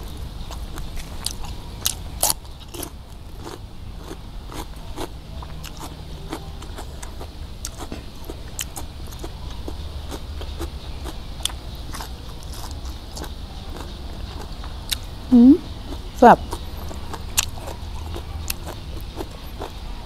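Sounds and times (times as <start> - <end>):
crunching and chewing food: 0.0 - 20.0.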